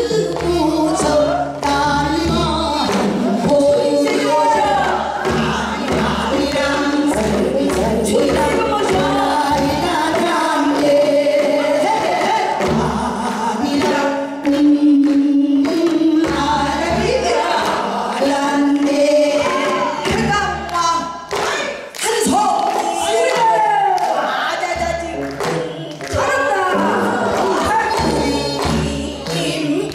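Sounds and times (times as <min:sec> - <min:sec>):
women singing folk song: 0:00.0 - 0:29.9.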